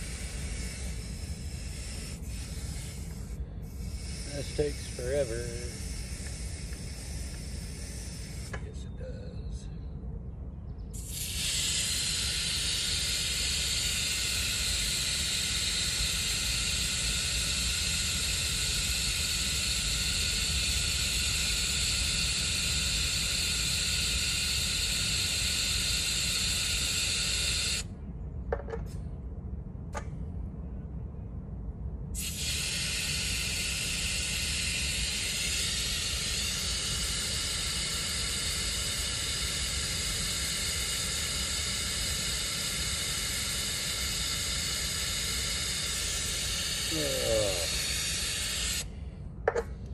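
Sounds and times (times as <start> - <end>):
compressed air hissing into valve: 0.0 - 8.7, 10.9 - 27.9, 32.2 - 49.0
steady low hum: 0.0 - 49.9.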